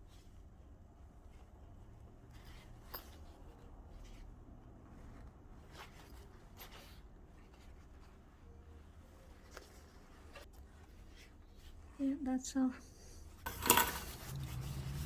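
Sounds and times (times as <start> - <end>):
fabric rustling: 0.0 - 15.0.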